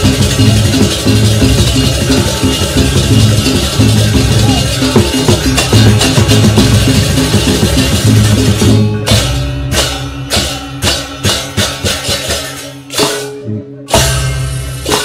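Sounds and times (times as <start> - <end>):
gamelan ensemble playing: 0.0 - 15.0
kendang drums: 0.0 - 15.0.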